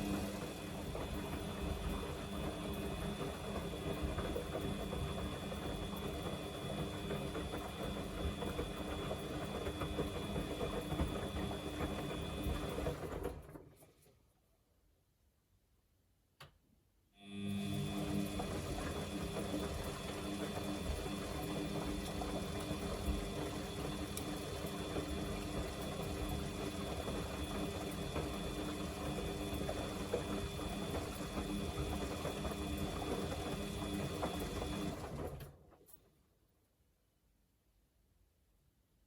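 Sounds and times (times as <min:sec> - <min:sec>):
washing machine motor whirring: 0:00.0 - 0:13.6, 0:17.2 - 0:35.7.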